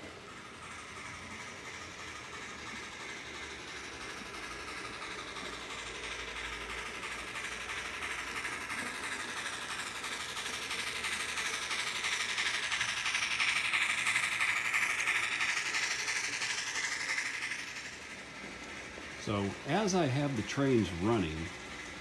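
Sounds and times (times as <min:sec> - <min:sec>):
model train whirring on rails: 0:00.0 - 0:22.0.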